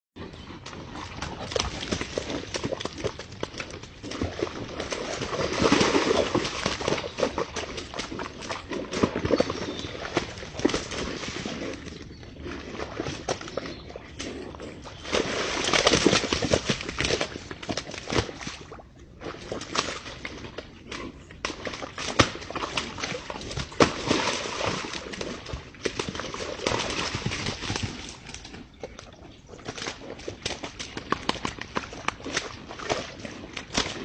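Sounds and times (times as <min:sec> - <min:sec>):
deer hooves knocking and scuffling: 0:00.2 - 0:12.2, 0:13.4 - 0:34.0.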